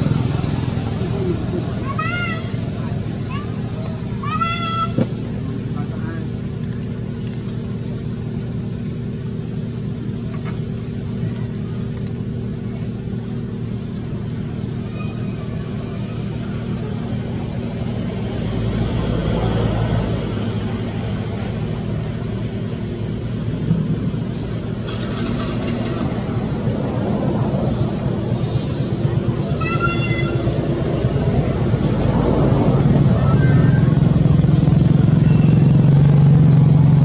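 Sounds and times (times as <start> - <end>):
engine-like hum: 0.0 - 37.0
high whine: 0.0 - 37.0.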